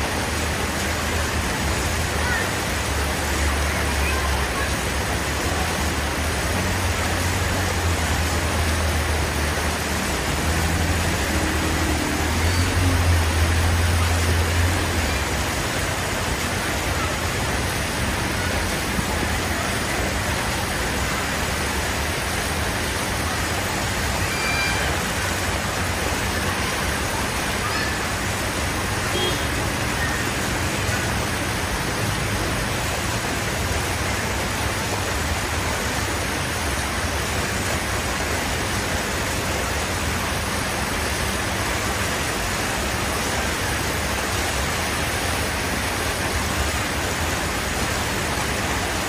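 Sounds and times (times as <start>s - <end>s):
traffic hiss: 0.0s - 49.0s.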